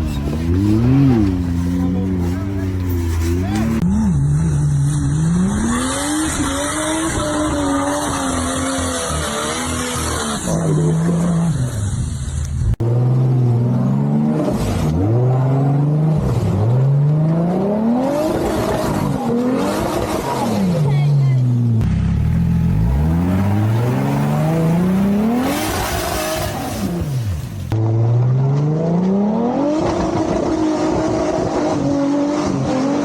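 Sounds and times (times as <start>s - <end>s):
off-road engines revving: 0.0s - 33.0s.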